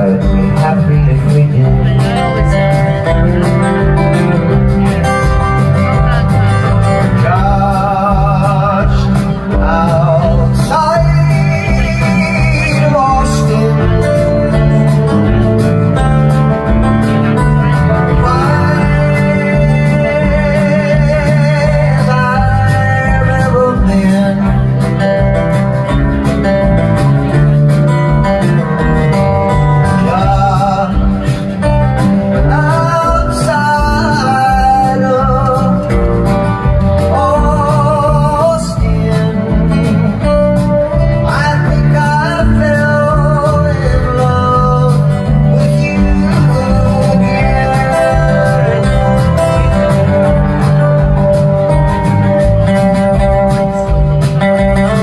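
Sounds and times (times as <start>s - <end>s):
bass: 0.0s - 55.0s
drums: 0.0s - 55.0s
sliding lead melody: 0.0s - 55.0s
strummed acoustic guitar: 0.0s - 55.0s.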